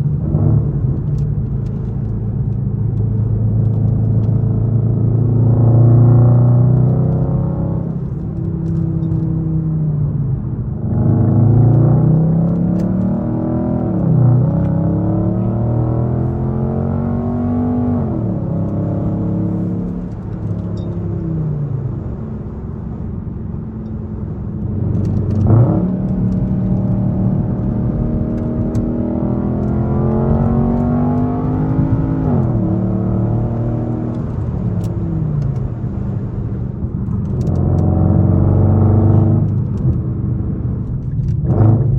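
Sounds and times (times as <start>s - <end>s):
car engine accelerating through gears: 0.0s - 41.9s.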